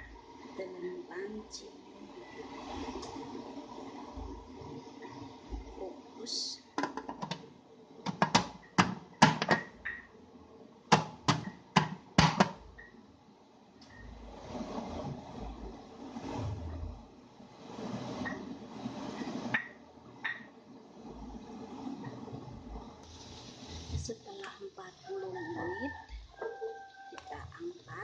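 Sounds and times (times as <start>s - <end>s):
pot steaming hiss and rumble: 0.0s - 9.9s, 13.6s - 28.0s.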